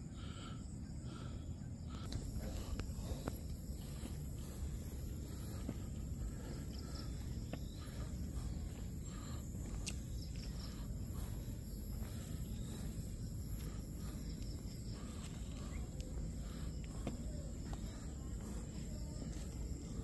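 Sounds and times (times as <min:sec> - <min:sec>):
insects buzzing: 0:00.0 - 0:20.0
footsteps on paved path: 0:01.9 - 0:20.0.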